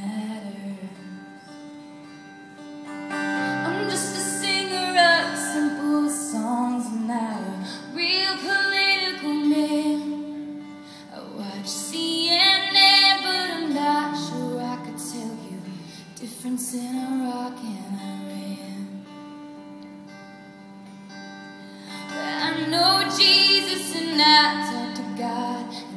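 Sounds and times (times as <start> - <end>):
woman singing country ballad: 0.0 - 2.2, 3.0 - 20.1, 21.5 - 25.9
acoustic guitar chords: 0.0 - 25.9.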